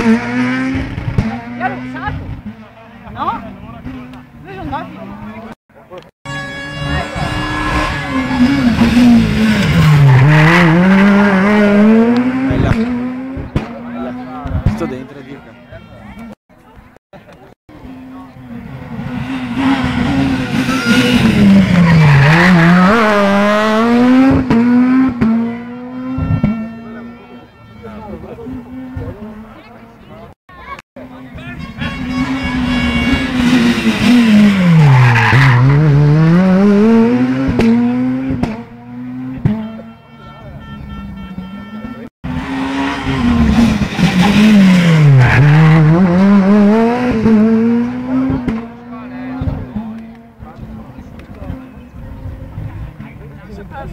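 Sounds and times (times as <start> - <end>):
rally car engine revving: 0.0 - 5.6, 6.3 - 16.4, 17.7 - 30.4, 31.0 - 53.9.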